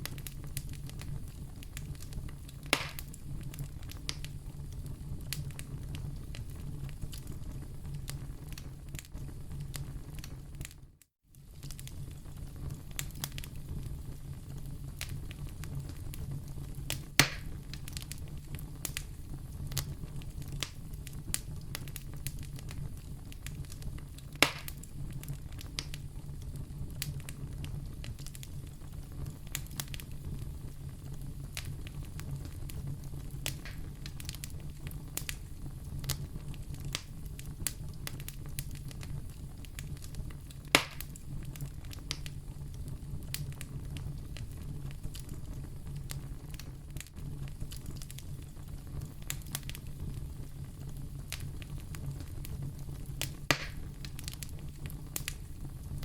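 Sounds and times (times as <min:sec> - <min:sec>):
loud fire pops: 0:00.0 - 0:10.8, 0:11.4 - 0:56.0
wood fire crackling: 0:00.0 - 0:56.0.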